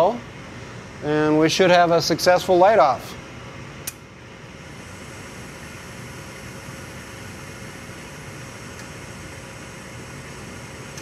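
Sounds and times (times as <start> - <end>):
furnace fan motor running: 0.0 - 11.0.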